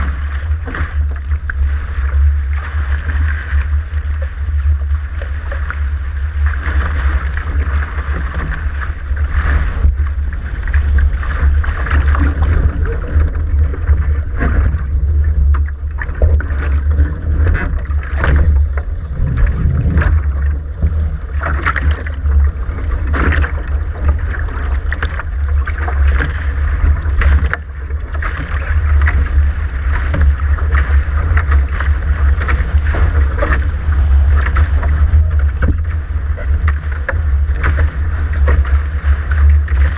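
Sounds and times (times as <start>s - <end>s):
water rushing along hull: 0.0s - 39.9s
wind buffeting microphone: 0.0s - 39.9s.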